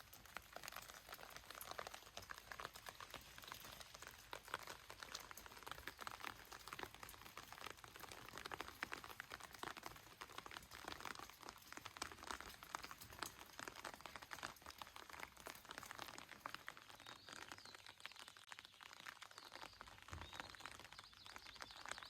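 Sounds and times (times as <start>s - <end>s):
rain patter: 0.0s - 22.0s.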